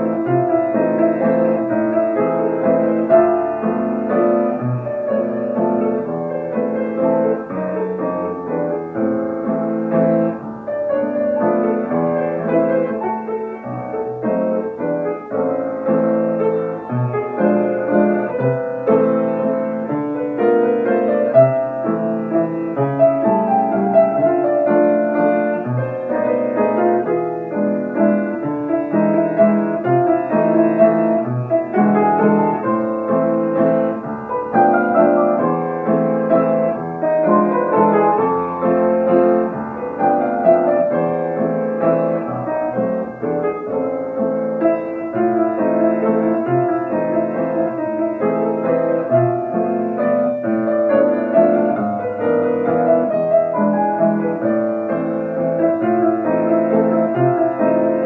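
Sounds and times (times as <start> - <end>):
classical piano piece: 0.0 - 58.0.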